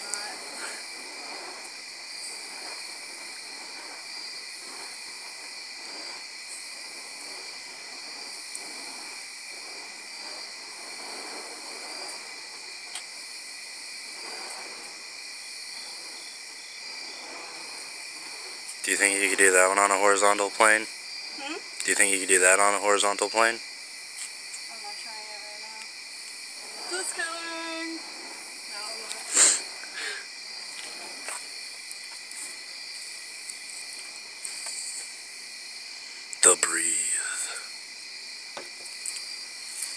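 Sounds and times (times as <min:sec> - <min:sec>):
fire staffs whooshing: 0:00.0 - 0:24.7, 0:25.9 - 0:39.9
crickets chirring: 0:00.0 - 0:39.9
insects trilling: 0:00.0 - 0:39.9.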